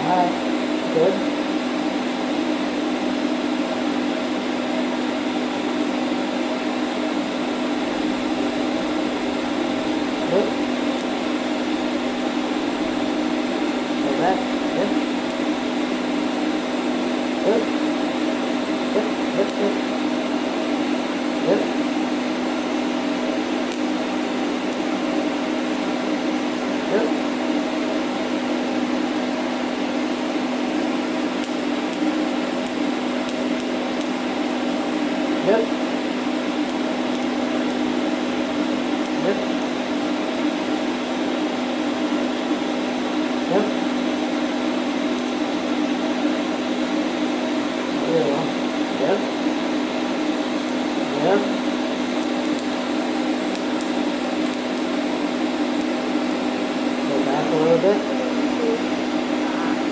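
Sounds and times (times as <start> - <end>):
welder humming and hissing: 0.0 - 59.9.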